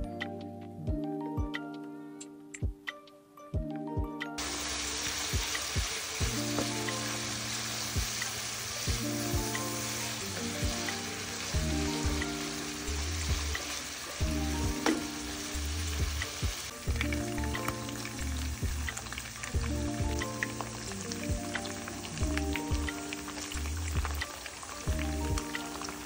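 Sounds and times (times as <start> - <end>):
background music: 0.0 - 26.0
meat sizzling in a pan: 4.4 - 26.0.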